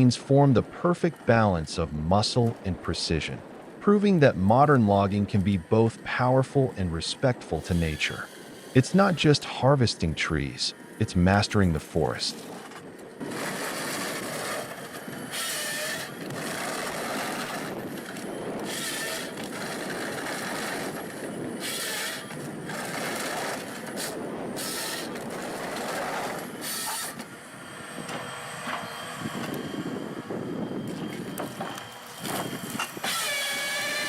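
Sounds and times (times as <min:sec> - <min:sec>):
harvester machine noise: 0:00.0 - 0:34.0.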